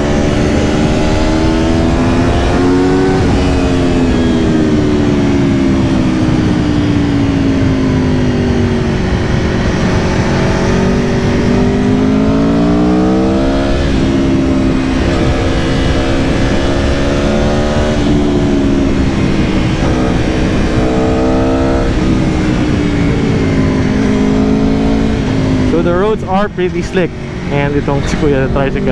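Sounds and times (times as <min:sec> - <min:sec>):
motorcycle engine accelerating: 0:00.0 - 0:28.9
wind rush on microphone: 0:00.0 - 0:28.9.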